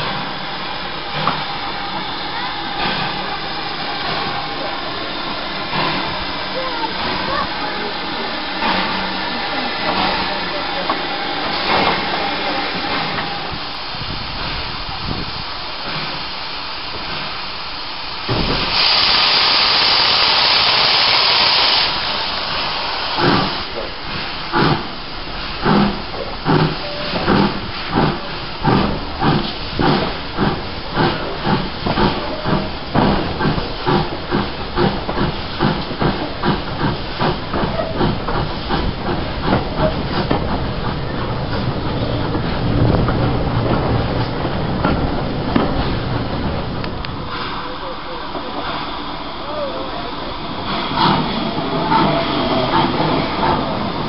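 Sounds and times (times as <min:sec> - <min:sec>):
loud blast of hissing steam: 0:00.0 - 0:54.0
steam hissing: 0:00.0 - 0:54.0
steam locomotive exhaust chuffs: 0:00.0 - 0:54.0.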